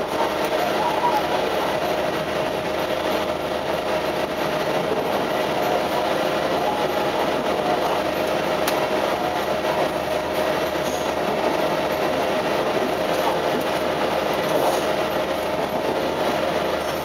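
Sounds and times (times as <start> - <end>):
railcar wheels and motor: 0.0 - 17.0.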